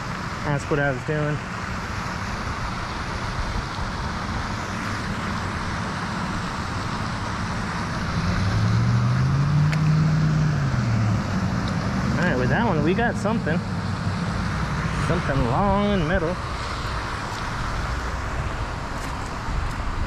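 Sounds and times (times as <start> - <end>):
road traffic noise: 0.0 - 20.0
vehicle engine hum passing: 0.0 - 20.0.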